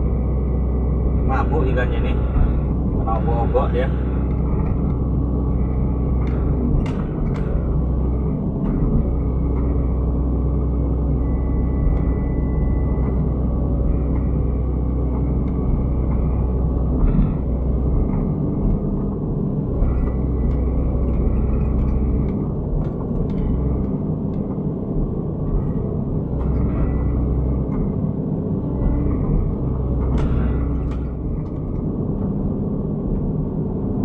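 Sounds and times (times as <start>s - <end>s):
excavator diesel engine: 0.0s - 34.0s
hydraulics working: 0.0s - 34.0s.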